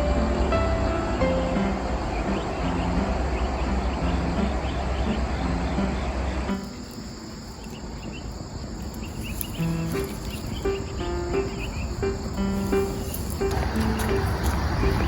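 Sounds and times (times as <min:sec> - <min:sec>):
soft background music: 0:00.0 - 0:07.6, 0:09.3 - 0:15.0
insects chirping in trills: 0:00.0 - 0:15.0.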